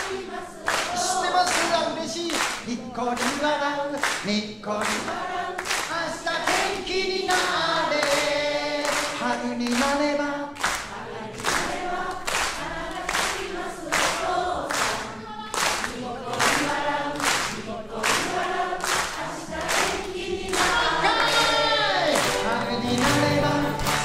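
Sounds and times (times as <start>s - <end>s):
audience singing along: 0.0s - 3.2s, 4.7s - 24.0s
rhythmic clapping: 0.0s - 24.0s.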